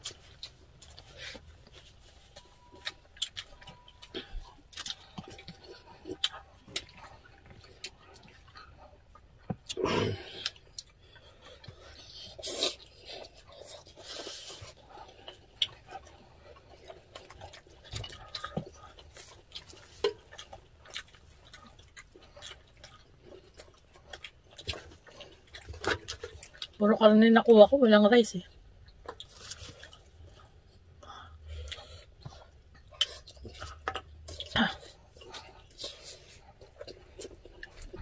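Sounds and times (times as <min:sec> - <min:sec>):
chewing and mouth noises: 0:00.0 - 0:27.2, 0:28.4 - 0:38.0.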